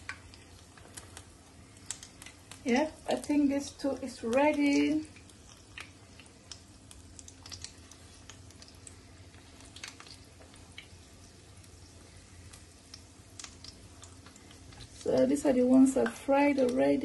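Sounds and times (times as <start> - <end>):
oil pops and crackles: 0.0 - 16.9
food deep-frying in hot oil: 0.0 - 17.0.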